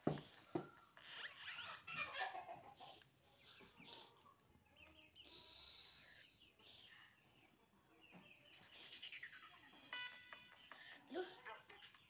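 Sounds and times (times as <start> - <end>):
faint bird chirping: 0.3 - 12.0.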